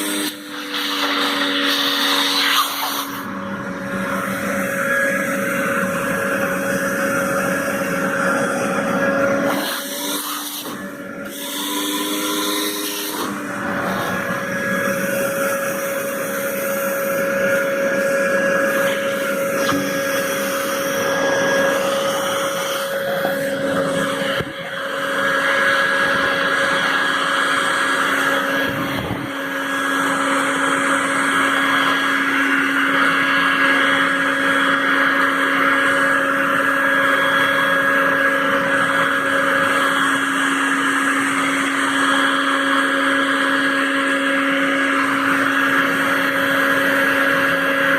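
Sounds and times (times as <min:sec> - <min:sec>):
vacuum cleaner motor whine: 0:00.0 - 0:47.9.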